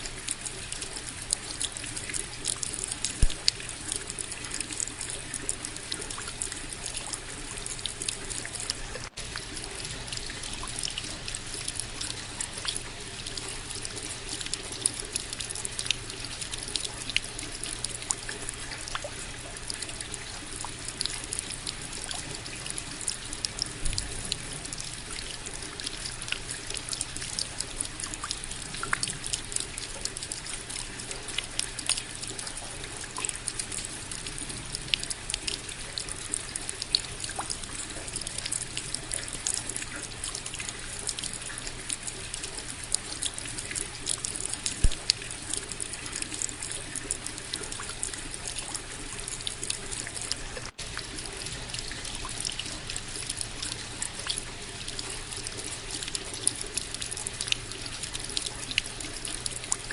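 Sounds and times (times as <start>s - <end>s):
rain drops pattering: 0.0s - 59.9s
wash of falling rain: 0.0s - 59.9s.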